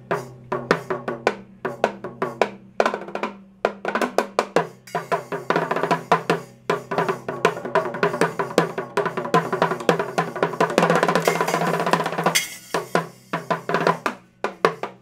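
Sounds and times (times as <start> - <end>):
drum solo on toms and snare: 0.0 - 15.0.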